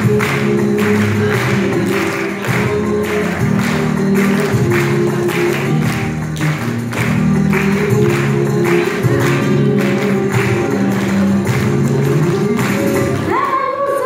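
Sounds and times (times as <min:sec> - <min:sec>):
sharp handclaps: 0:00.0 - 0:13.6.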